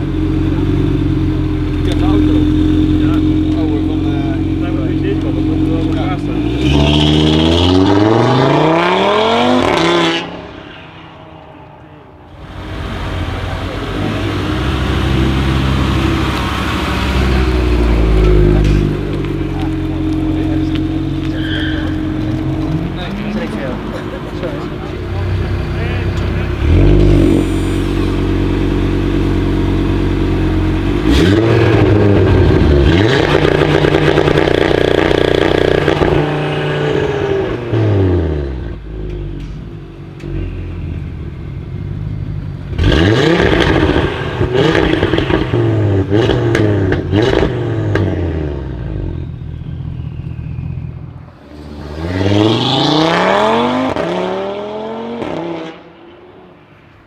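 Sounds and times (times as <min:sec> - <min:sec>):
exhaust cracks: 0:00.0 - 0:56.2
car engine revving and accelerating: 0:00.0 - 0:56.7.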